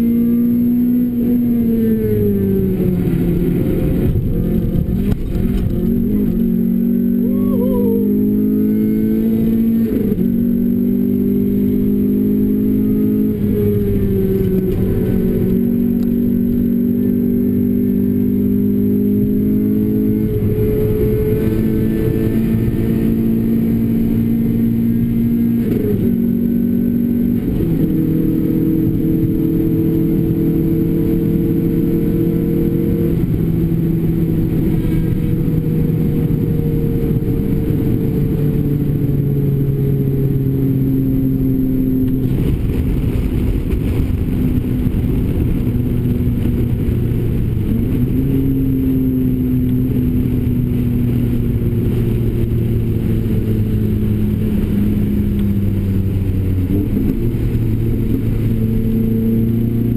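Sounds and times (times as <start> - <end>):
car engine and exhaust revving: 0.0 - 59.9
tyre and road noise: 0.0 - 59.9.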